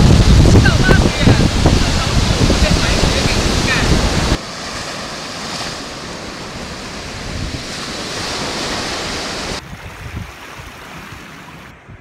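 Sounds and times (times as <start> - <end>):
surf breaking on beach: 0.0 - 11.7
wind on microphone: 0.0 - 12.0.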